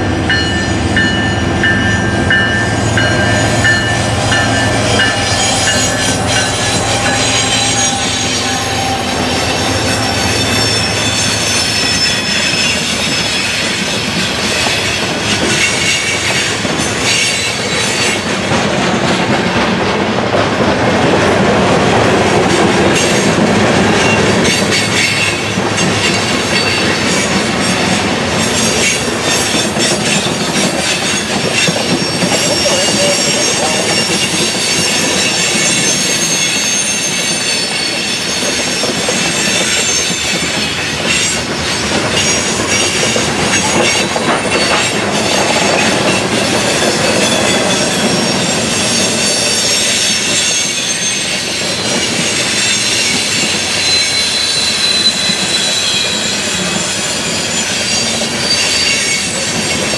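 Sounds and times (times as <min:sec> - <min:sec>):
train wheels rumbling on rail: 0:00.0 - 0:59.9
high-pitched wheel squeal: 0:00.3 - 0:18.2, 0:24.0 - 0:59.9.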